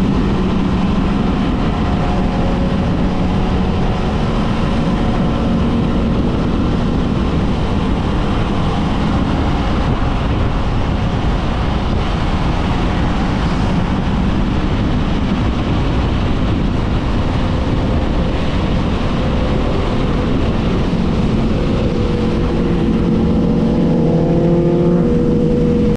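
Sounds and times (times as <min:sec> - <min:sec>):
motorcycle engine running: 0:00.0 - 0:25.9
wind noise on microphone: 0:00.0 - 0:25.9.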